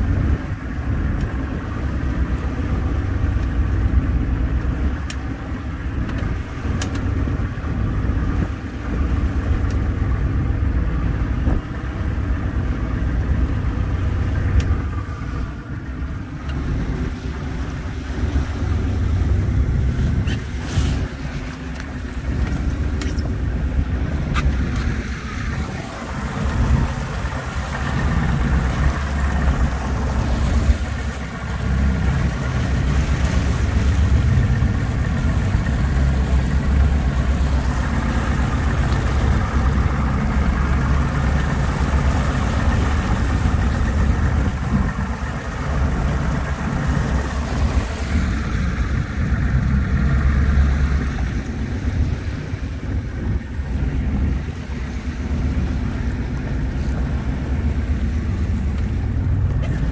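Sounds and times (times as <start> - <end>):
outboard motor running: 0.0 - 59.9
water washing past boat: 0.0 - 59.9
wind on microphone: 0.0 - 59.9.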